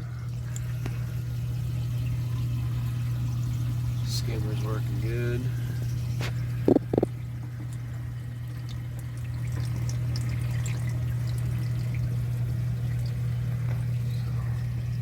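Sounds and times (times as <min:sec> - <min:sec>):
pump hum: 0:00.0 - 0:15.0
trickling splashing water: 0:00.0 - 0:15.0
water drips: 0:00.2 - 0:05.1, 0:05.7 - 0:15.0.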